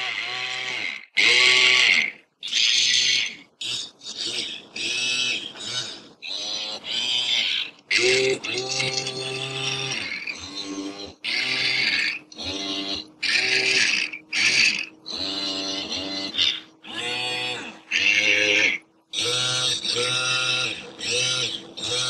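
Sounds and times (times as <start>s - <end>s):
buzzy electronic robot warbles: 0.0s - 22.0s.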